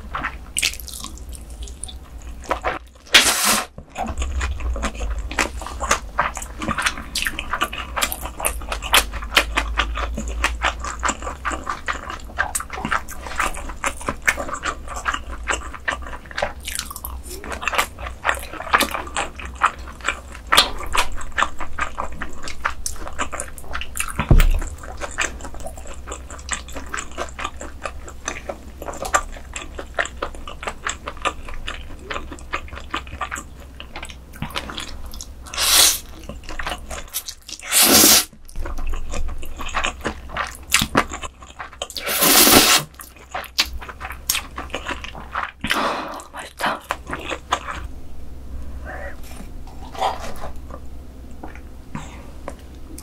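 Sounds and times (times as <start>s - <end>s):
food being chewed: 0.0s - 47.9s, 49.0s - 53.0s.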